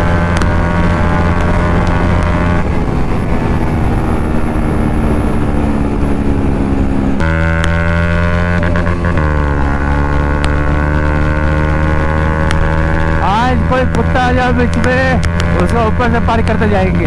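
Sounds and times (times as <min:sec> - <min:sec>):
motorcycle engine at speed: 0:00.0 - 0:17.0.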